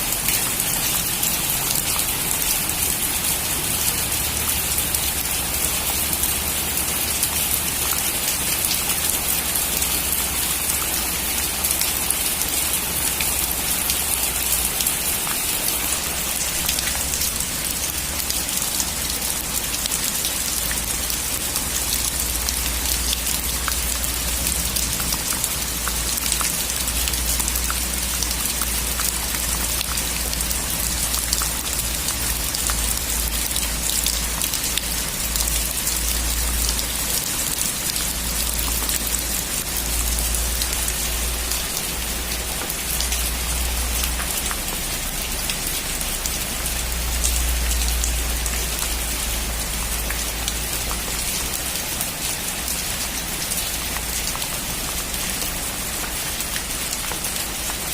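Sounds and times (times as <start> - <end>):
heavy rain on a metal roof: 0.0 - 57.9.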